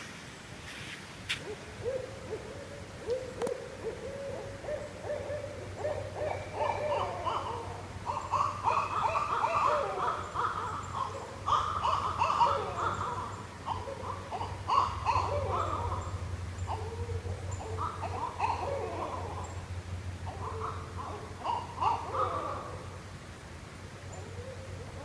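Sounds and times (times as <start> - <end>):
owls hooting: 1.8 - 23.0.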